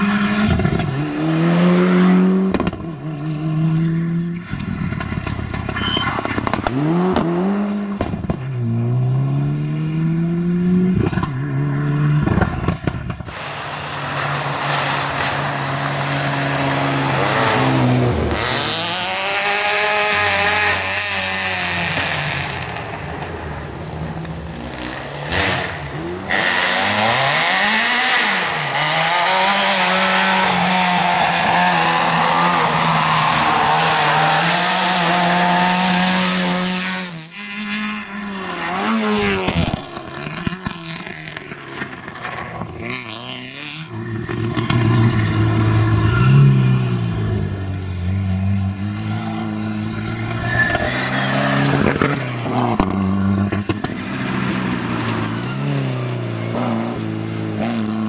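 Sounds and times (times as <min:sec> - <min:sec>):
rally car engine revving: 0:00.0 - 0:23.3, 0:24.0 - 0:58.0
tyre noise on wet road: 0:00.0 - 0:58.0.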